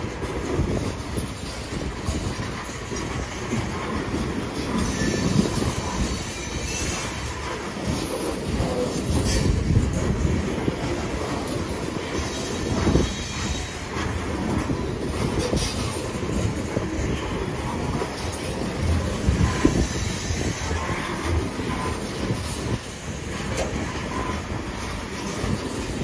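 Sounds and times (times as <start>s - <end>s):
train cars clanking: 0.0s - 26.0s
train wheels rumbling on rail: 0.0s - 26.0s.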